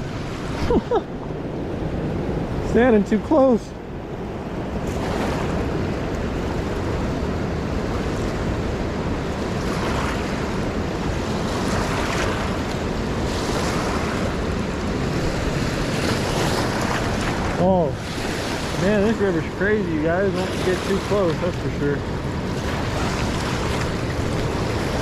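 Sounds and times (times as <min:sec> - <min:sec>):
river rushing and splashing: 0:00.0 - 0:25.0.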